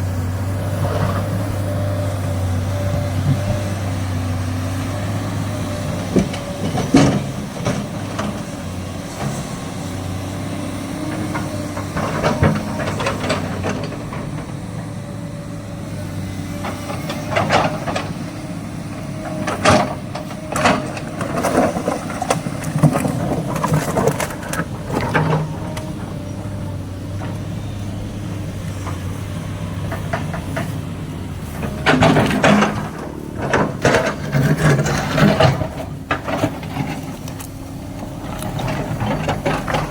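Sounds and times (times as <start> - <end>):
excavator diesel engine running: 0.0 - 39.9
clanks and squeals from tracks: 5.0 - 39.9.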